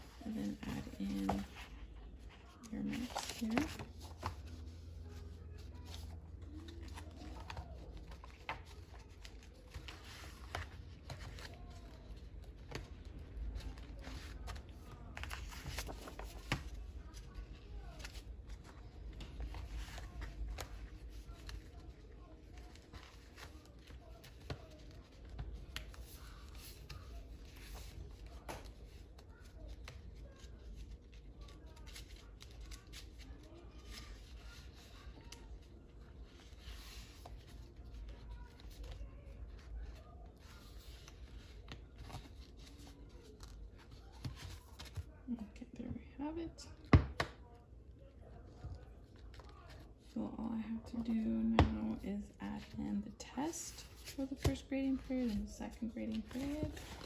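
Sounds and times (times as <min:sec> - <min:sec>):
paper rustling: 0:00.0 - 0:45.2, 0:53.7 - 0:57.0.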